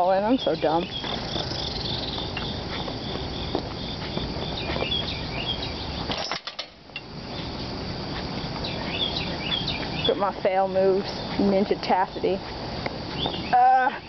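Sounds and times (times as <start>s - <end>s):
insects chirping: 0.0s - 14.0s
outdoor rush: 0.0s - 14.0s.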